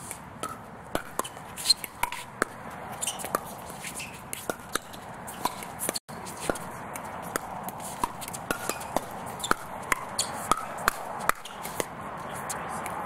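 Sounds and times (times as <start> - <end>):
paddles hitting plastic ball: 0.1 - 12.0.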